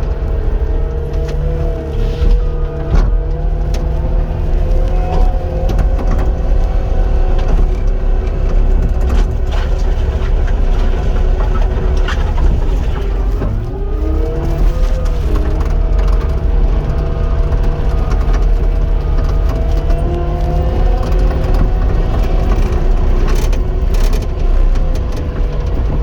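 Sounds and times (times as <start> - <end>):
diesel engine running: 0.0 - 26.0
knocks and clanks: 0.0 - 26.0.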